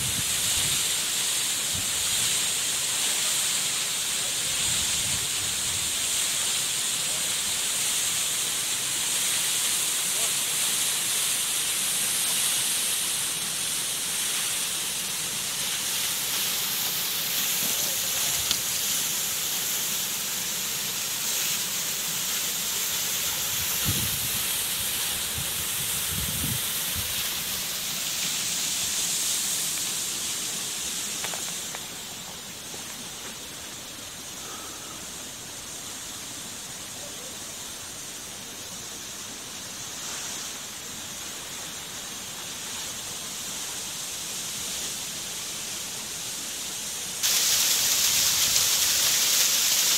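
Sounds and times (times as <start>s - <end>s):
waterfall rushing hiss: 0.0s - 49.9s.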